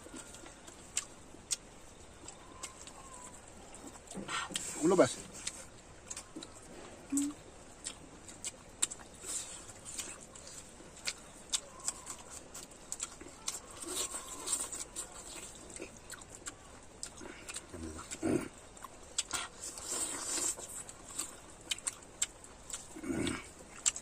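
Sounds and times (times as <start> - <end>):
chewing and lip-smacking: 0.0 - 24.0.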